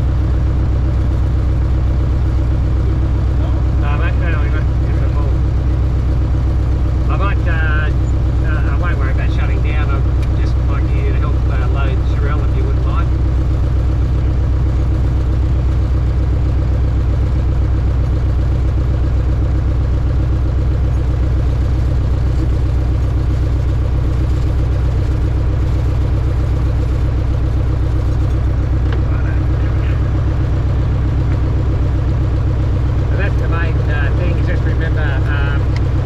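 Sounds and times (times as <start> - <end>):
light aircraft engine and propeller: 0.0 - 36.0.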